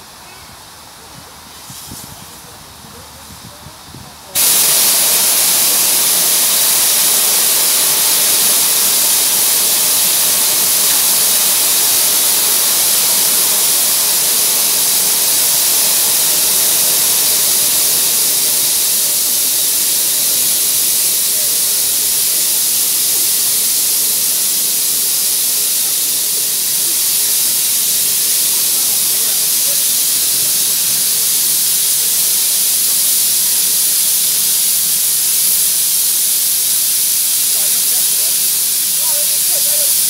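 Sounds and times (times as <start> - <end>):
steam hissing from locomotive: 0.0 - 40.0.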